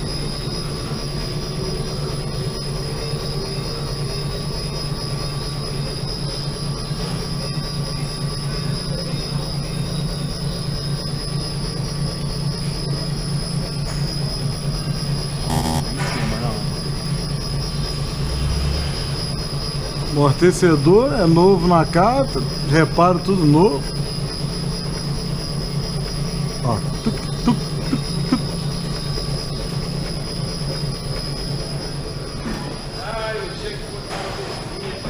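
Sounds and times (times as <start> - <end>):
mechanical rumble and rattle: 0.0 - 35.0.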